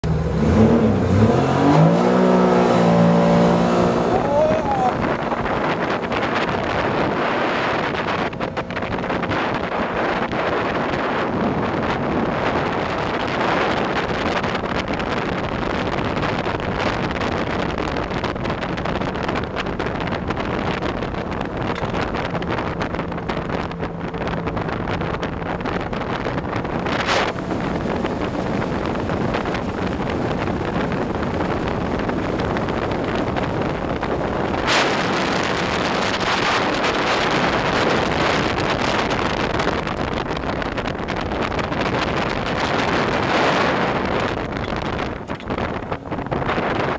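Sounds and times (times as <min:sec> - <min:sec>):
boat engine hum: 0:00.0 - 0:46.9
wind noise on microphone: 0:00.0 - 0:46.9.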